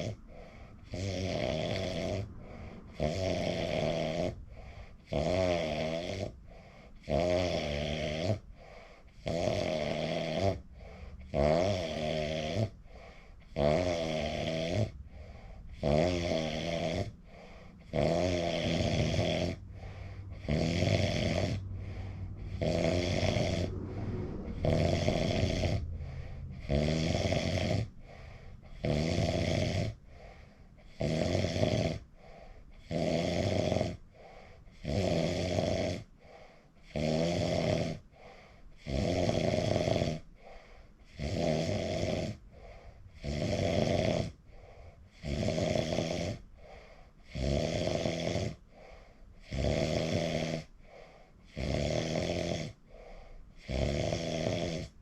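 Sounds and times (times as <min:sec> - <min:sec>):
quiet breathing: 0:00.0 - 0:07.2, 0:08.1 - 0:13.6, 0:14.2 - 0:33.0, 0:33.9 - 0:34.8, 0:35.6 - 0:37.0, 0:37.9 - 0:38.9, 0:39.6 - 0:41.2, 0:42.2 - 0:55.0
person snoring loudly: 0:00.0 - 0:36.1, 0:36.8 - 0:38.1, 0:38.8 - 0:40.3, 0:41.1 - 0:46.5, 0:47.2 - 0:48.6, 0:49.4 - 0:50.7, 0:51.5 - 0:53.0, 0:53.6 - 0:55.0.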